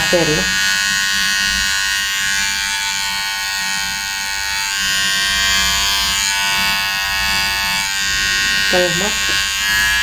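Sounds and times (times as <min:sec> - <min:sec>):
electric hair trimmer running: 0:00.0 - 0:10.0.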